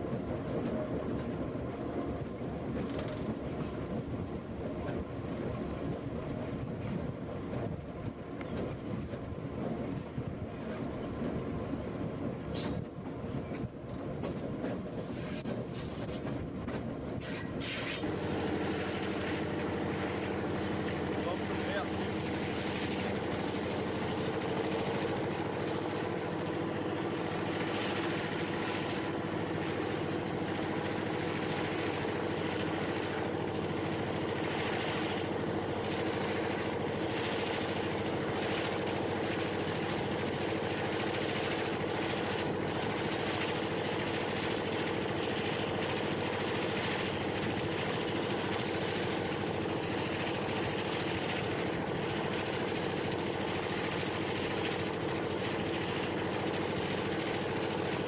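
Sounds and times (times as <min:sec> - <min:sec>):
diesel locomotive engine roaring: 0:00.0 - 0:58.0.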